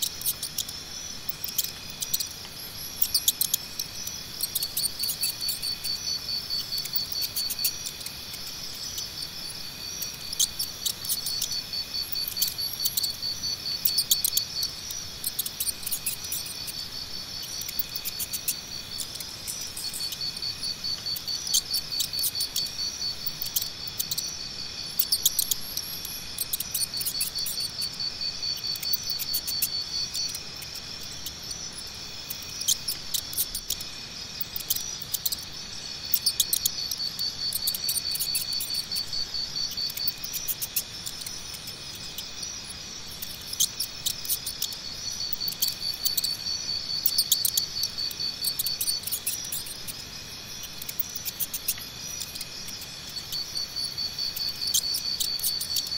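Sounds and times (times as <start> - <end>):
crickets chirping: 0.0 - 55.9
faint insect hum: 0.0 - 55.9.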